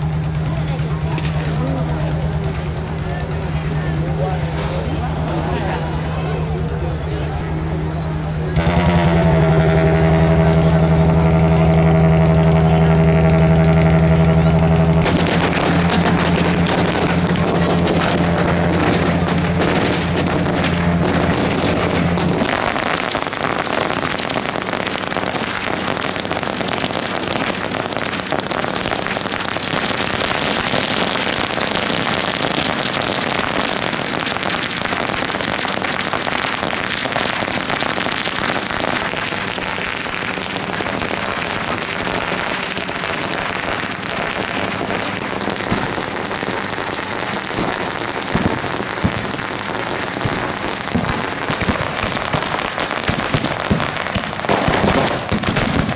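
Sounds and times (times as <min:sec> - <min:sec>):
firecrackers crackling: 0:00.0 - 0:55.9.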